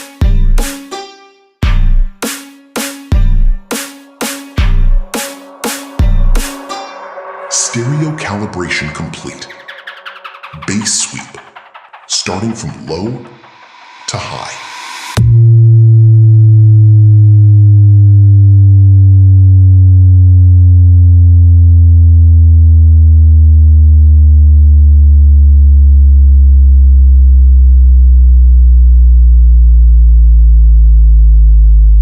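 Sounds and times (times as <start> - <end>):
bass sweep test tone: 1.6 - 2.1, 2.8 - 32.0.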